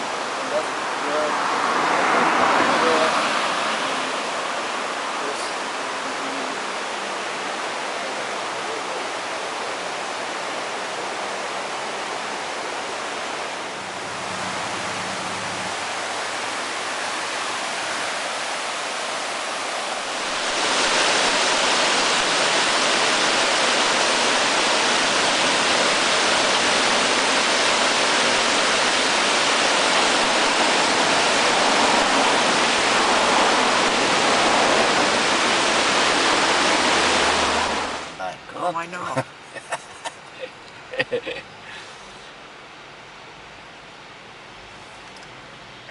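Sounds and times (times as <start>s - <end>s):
stream cascading over rocks: 0.0s - 45.9s.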